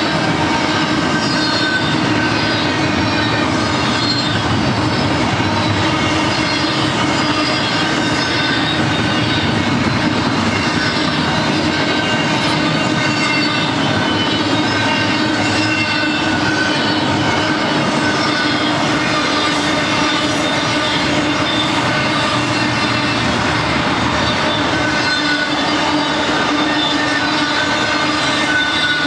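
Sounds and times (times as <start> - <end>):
high-pitched wheel squealing: 0.0 - 29.0
train wheels rumbling on rail: 0.0 - 29.0.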